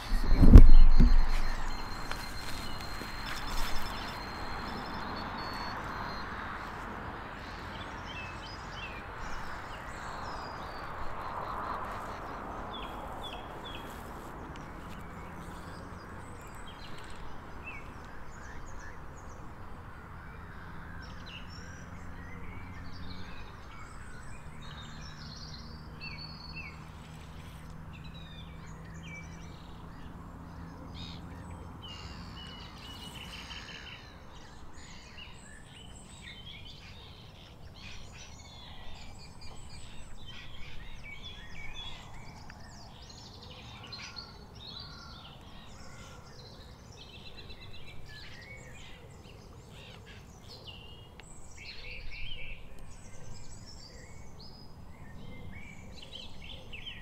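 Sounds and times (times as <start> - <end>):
birds chirping and calling: 0.0 - 19.0, 20.5 - 57.0.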